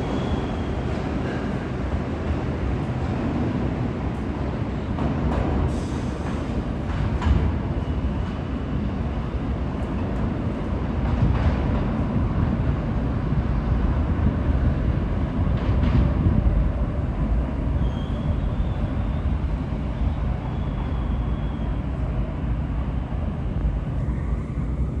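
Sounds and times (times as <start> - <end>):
sharp train clanks: 0.0 - 13.4, 14.0 - 22.1
subway train wheels rumbling: 0.0 - 25.0.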